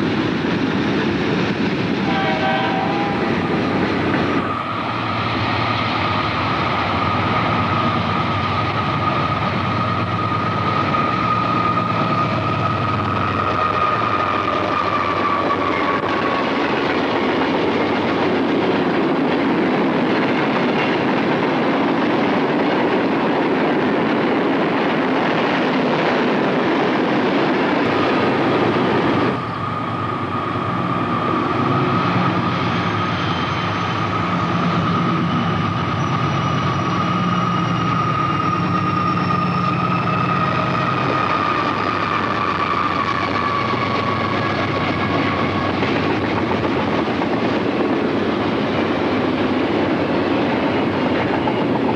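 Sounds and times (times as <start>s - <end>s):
diesel locomotive engine running: 0.0s - 20.8s, 27.8s - 51.9s
train cars rumbling on track: 0.0s - 51.9s.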